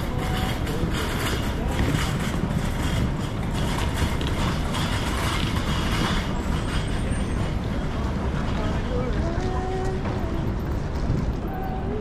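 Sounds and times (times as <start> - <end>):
traffic hum: 0.0 - 12.0
wind rumble on microphone: 0.0 - 12.0.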